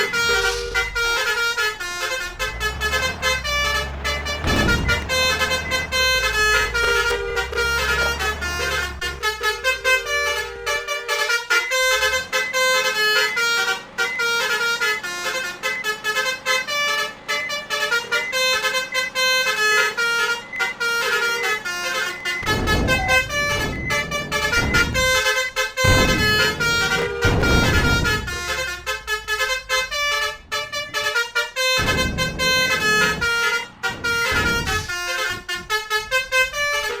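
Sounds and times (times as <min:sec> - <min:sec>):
deep engine rumble: 0:00.0 - 0:37.0
multi-trumpet horn melody: 0:00.0 - 0:37.0.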